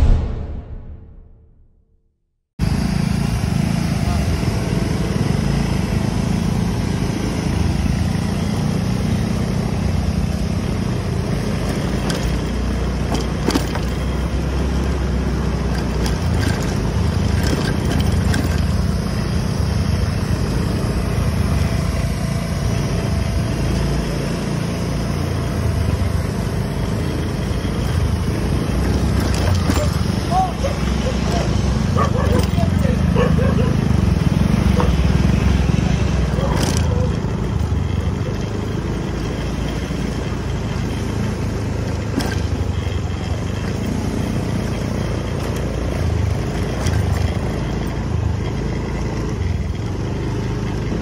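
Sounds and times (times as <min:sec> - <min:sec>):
road noise: 0:00.0 - 0:01.7, 0:02.6 - 0:51.0
vehicle engine running: 0:02.6 - 0:51.0.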